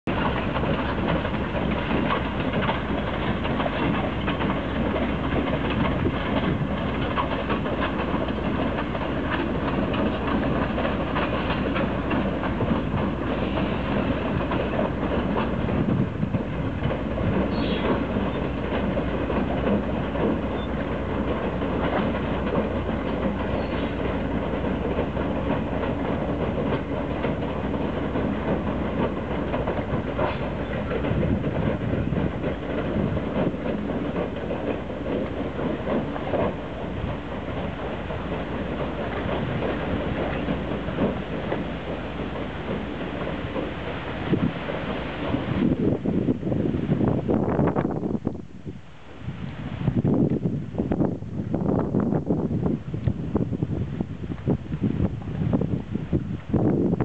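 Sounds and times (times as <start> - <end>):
train wheels on rails clicking: 0.1 - 57.0.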